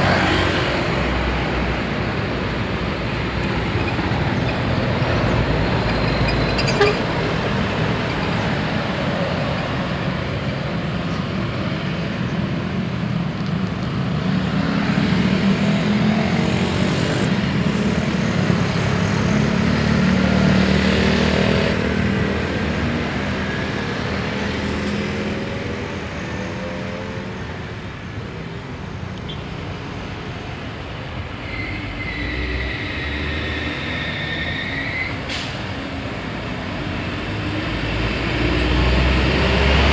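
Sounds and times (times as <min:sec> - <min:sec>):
highway traffic: 0:00.0 - 0:39.9.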